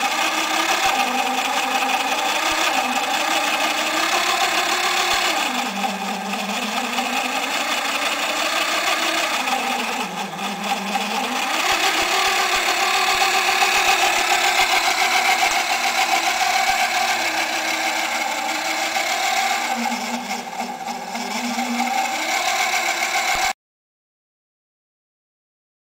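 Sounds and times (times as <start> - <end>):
small motor whining: 0.0 - 23.6.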